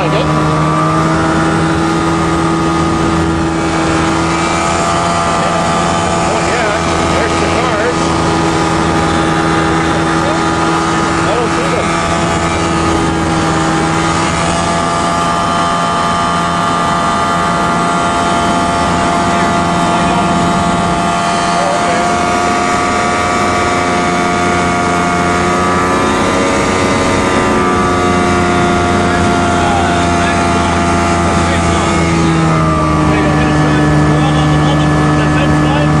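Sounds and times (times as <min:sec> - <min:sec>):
light aircraft engine droning: 0:00.0 - 0:36.0.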